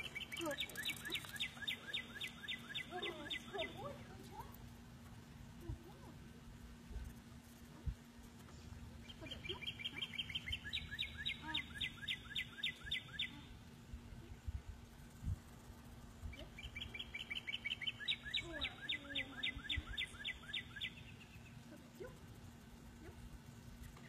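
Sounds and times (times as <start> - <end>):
songbird singing: 0.0 - 4.7, 9.0 - 24.0.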